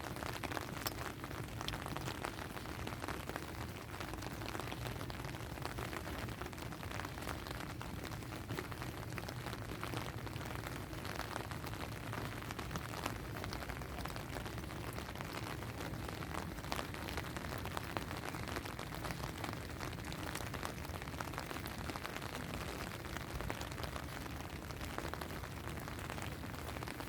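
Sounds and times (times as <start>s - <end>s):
rain drops ticking: 0.0s - 27.0s.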